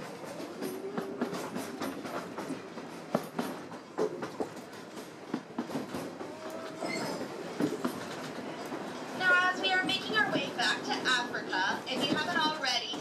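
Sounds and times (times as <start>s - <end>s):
train running noise: 0.0s - 13.0s
train wheels clacking on track: 0.0s - 13.0s.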